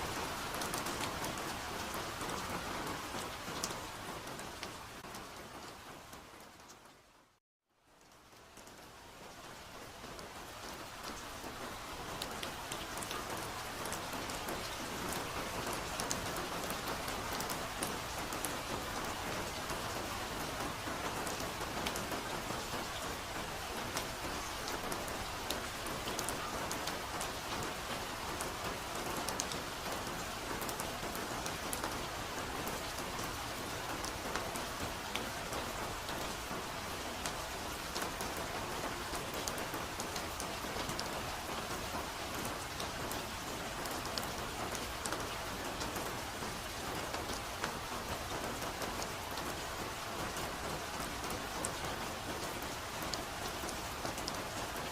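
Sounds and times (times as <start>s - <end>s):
soft rain with ticking drops: 0.0s - 54.9s.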